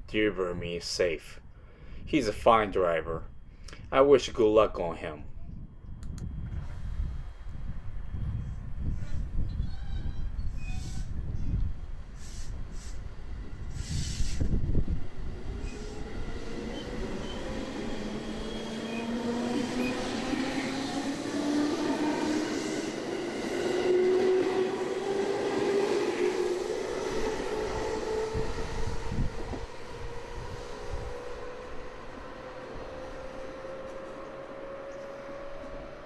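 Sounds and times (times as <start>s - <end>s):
electric train motors whining: 6.9s - 36.0s.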